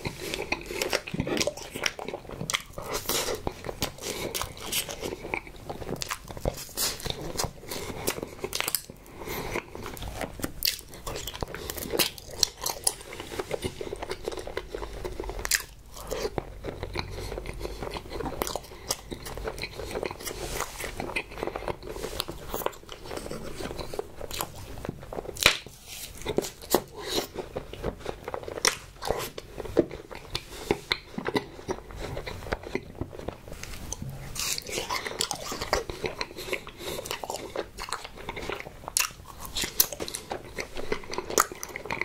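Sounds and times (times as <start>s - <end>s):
man chewing and biting: 0.0s - 42.0s.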